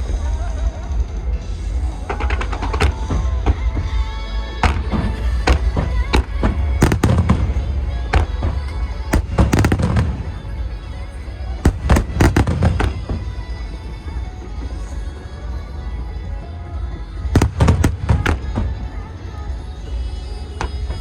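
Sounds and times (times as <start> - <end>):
music playing: 0.0 - 21.0
fireworks bursting: 1.2 - 15.3, 17.2 - 21.0.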